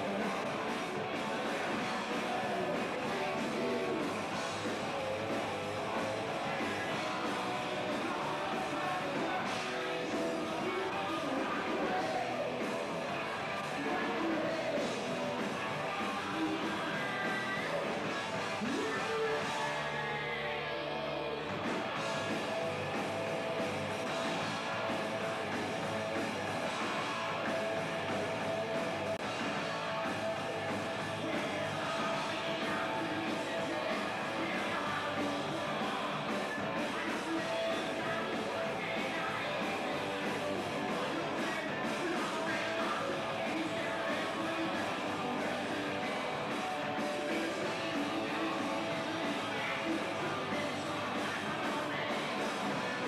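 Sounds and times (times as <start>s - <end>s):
rock band playing live: 0.0s - 53.0s.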